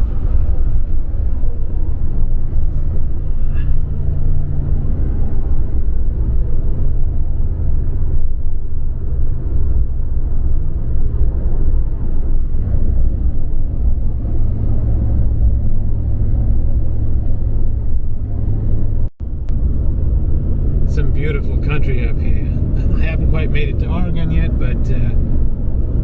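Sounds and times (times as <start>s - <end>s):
truck driving at speed: 0.0s - 26.0s.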